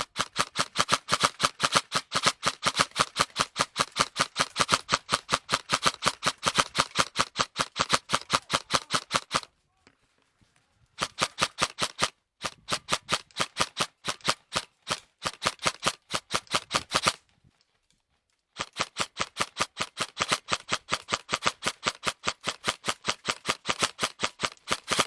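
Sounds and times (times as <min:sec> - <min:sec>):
airsoft gun rapid shots: 0:00.0 - 0:09.5, 0:11.0 - 0:17.2, 0:18.6 - 0:25.0.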